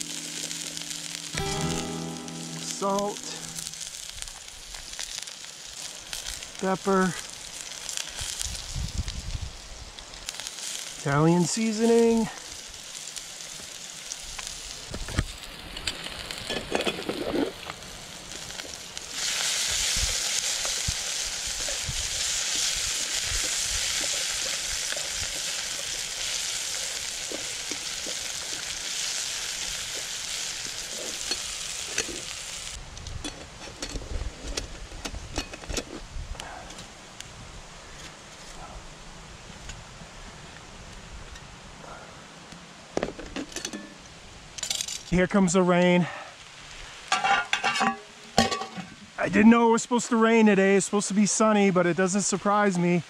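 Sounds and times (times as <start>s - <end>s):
potatoes and onions frying in oil: 0.0s - 41.7s, 42.7s - 53.0s.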